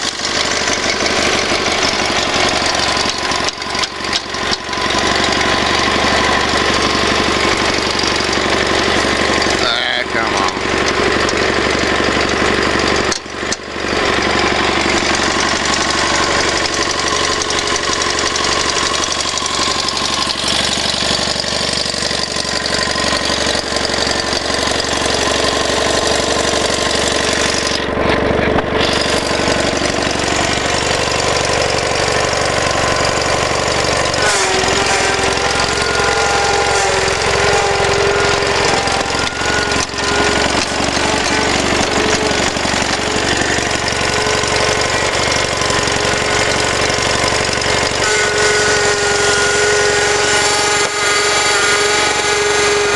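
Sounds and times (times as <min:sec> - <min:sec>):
garden tractor engine running: 0:00.0 - 0:52.9.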